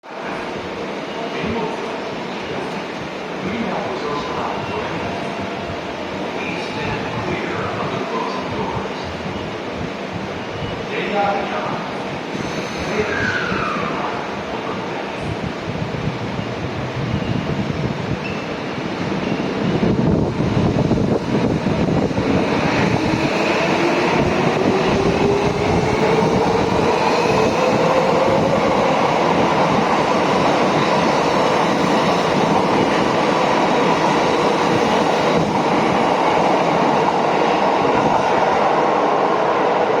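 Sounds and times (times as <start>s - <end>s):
train rail noise: 0.0s - 40.0s.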